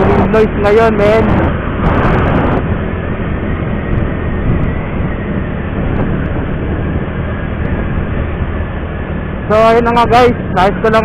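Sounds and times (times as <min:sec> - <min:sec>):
scooter engine humming: 0:00.0 - 0:11.0
wind buffeting camera: 0:00.0 - 0:11.0.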